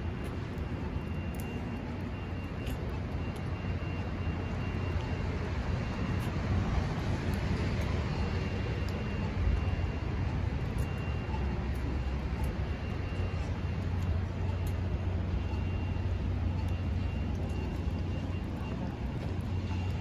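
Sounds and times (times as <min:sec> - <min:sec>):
faint high whine: 0:00.0 - 0:20.0.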